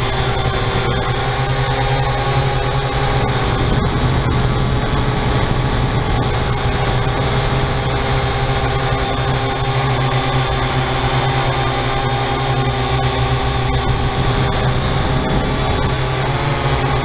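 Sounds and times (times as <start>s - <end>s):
quadcopter motors droning: 0.0s - 17.0s.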